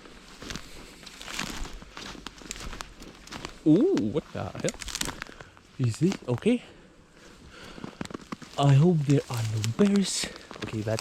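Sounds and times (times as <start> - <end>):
footsteps on snowy ground: 0.0 - 11.0.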